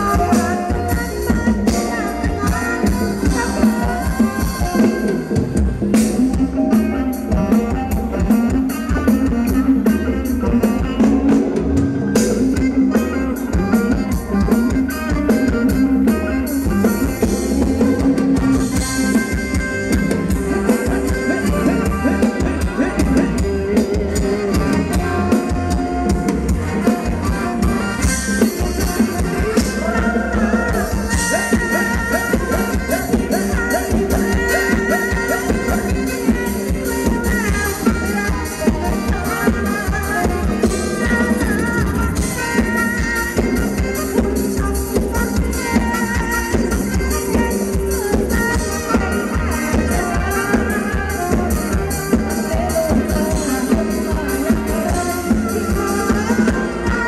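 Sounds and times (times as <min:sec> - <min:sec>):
dance band music: 0:00.0 - 0:57.0
drum kit beat: 0:00.0 - 0:57.0.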